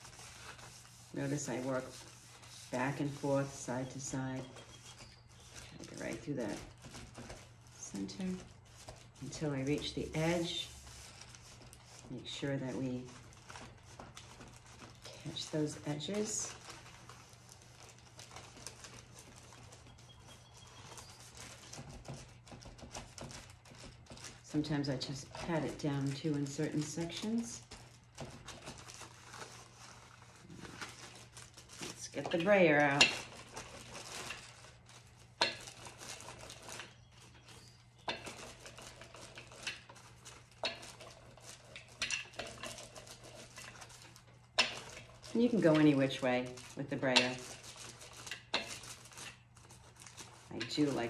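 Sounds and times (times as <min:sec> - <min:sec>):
paper rustling: 0:00.0 - 0:51.0.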